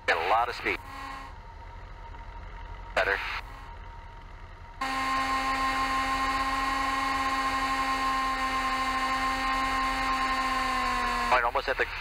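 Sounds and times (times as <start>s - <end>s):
light aircraft engine and propeller drone: 0.0s - 12.0s.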